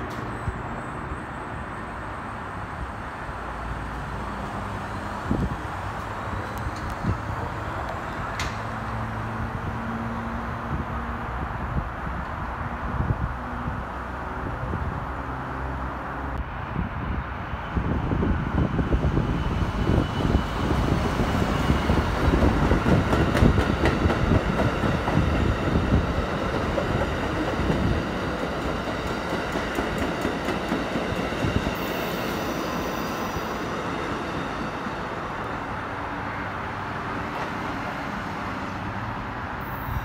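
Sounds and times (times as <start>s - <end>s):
train passing with heavy rumble: 0.0s - 40.0s.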